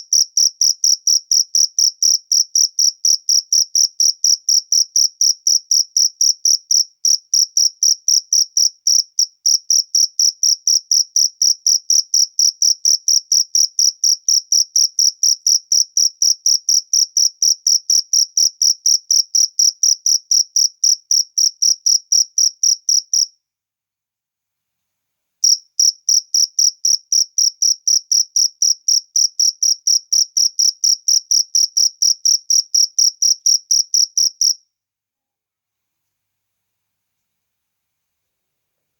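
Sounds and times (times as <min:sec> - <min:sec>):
cricket chirping: 0:00.0 - 0:23.4, 0:25.4 - 0:34.6.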